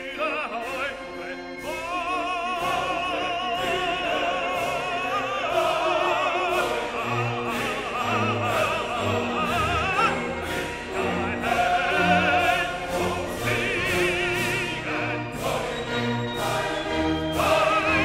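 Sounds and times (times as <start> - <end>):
operatic singer with vibrato: 0.0 - 18.0
orchestra playing: 0.0 - 18.0.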